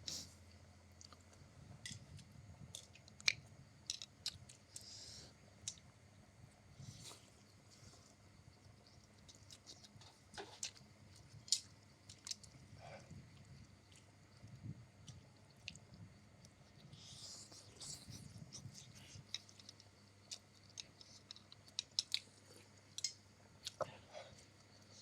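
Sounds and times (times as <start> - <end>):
person chewing noodles: 0.9 - 6.0, 6.9 - 25.0.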